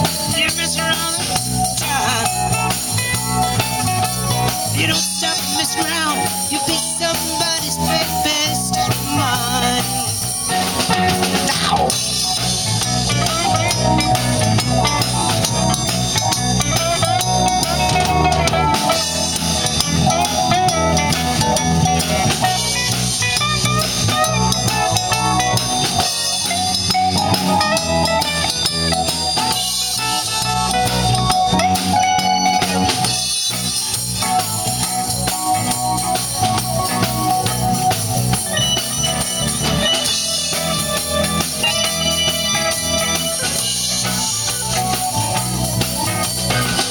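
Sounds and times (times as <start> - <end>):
blues band playing: 0.0 - 46.9
guitar lead with bending notes: 0.0 - 46.9.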